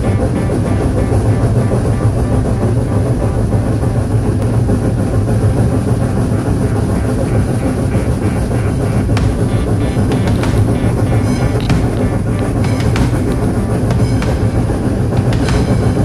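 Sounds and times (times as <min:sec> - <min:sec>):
steam train rumbling on track: 0:00.0 - 0:16.0.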